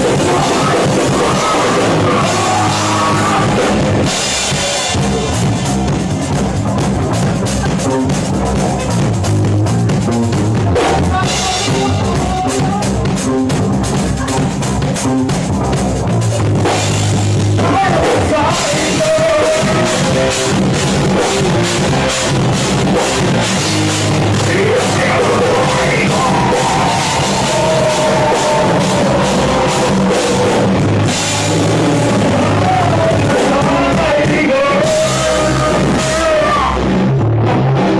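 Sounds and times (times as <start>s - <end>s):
drum kit beating: 0.0s - 37.9s
electric guitar: 0.0s - 37.9s.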